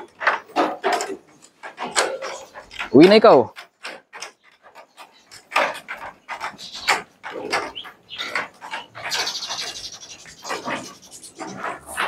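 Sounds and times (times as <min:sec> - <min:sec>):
hooves on slatted floor: 0:00.0 - 0:12.0
scraping rustle: 0:00.0 - 0:12.0.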